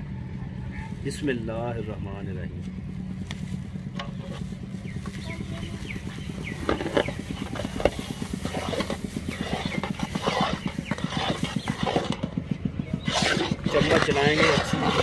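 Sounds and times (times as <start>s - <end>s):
low hum pulsing: 0.0s - 15.0s.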